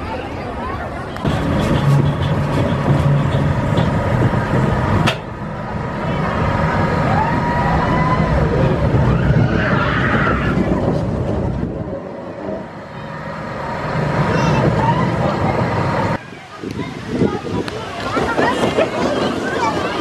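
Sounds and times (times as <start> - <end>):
roller coaster wheels rumbling: 0.0 - 20.0.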